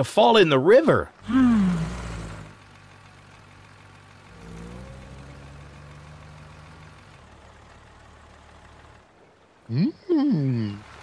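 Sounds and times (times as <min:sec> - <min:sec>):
cartoon truck engine hum: 0:00.0 - 0:11.0.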